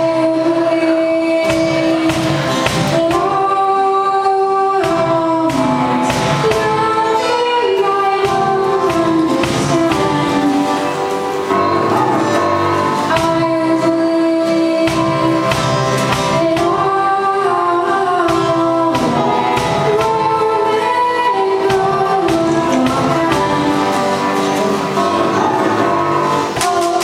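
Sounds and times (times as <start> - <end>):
instrumental accompaniment: 0.0 - 27.0
woman singing: 0.0 - 27.0.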